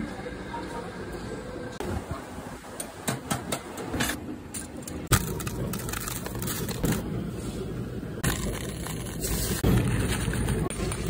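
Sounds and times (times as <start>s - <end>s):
factory background noise: 0.0s - 11.0s.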